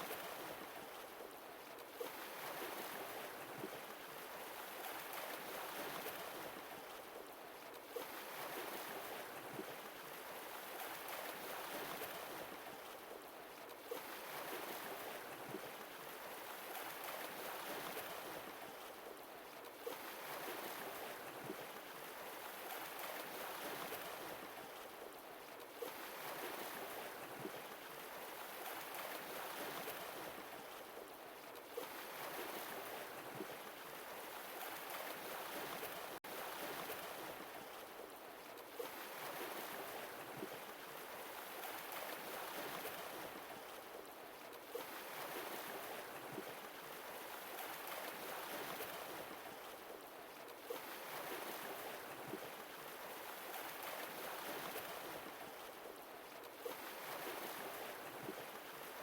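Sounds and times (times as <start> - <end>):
small water splashes and clicks: 0.0 - 59.0.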